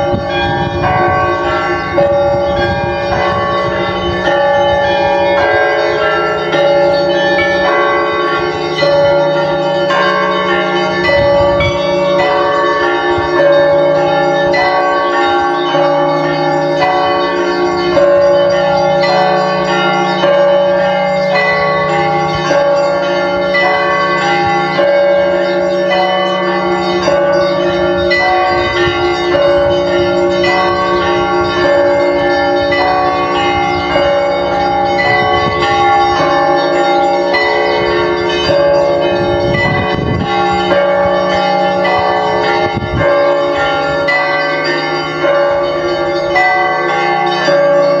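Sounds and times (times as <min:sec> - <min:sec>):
church bells pealing: 0:00.0 - 0:48.0
low bell humming: 0:00.0 - 0:48.0.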